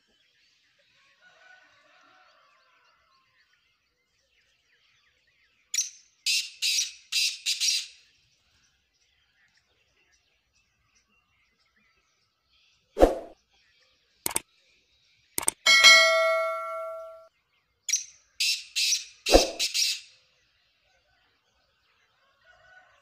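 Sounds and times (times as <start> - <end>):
faint background chirping: 0.0 - 23.0.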